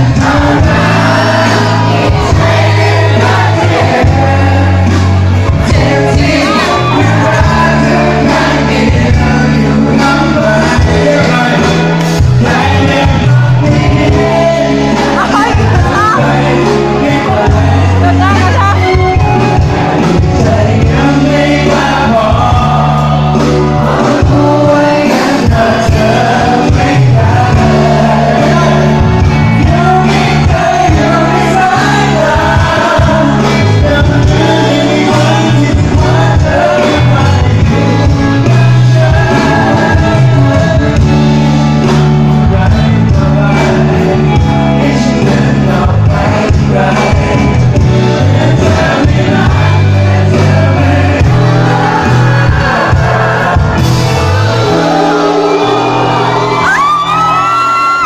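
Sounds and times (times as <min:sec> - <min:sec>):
live pop band playing: 0:00.0 - 0:58.0
person singing: 0:00.0 - 0:58.0.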